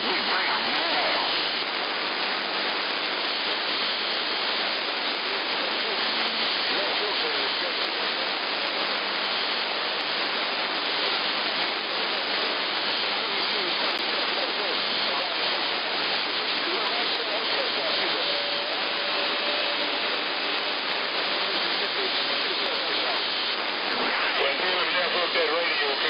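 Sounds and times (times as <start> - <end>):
faint garbled radio voices: 0.0 - 26.0
radio static: 0.0 - 26.0.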